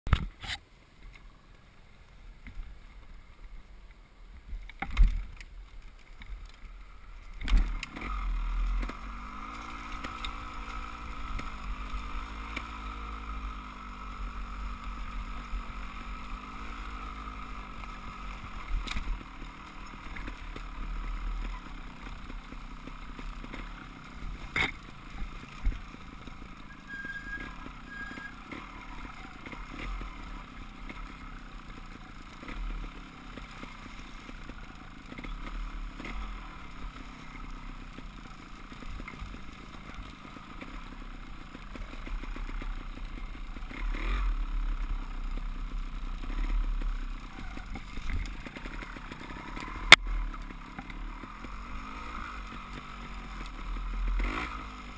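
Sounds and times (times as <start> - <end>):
dirt bike engine running: 4.3 - 54.9.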